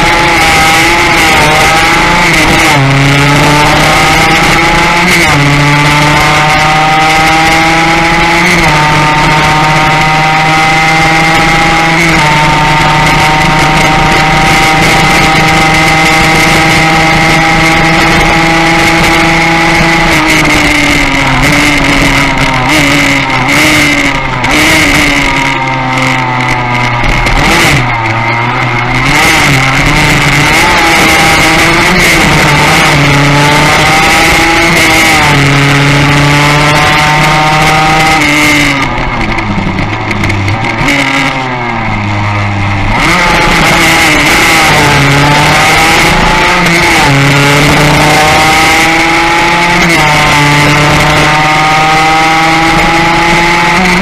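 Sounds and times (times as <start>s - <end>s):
racing motorcycle engine revving: 0.0s - 54.0s.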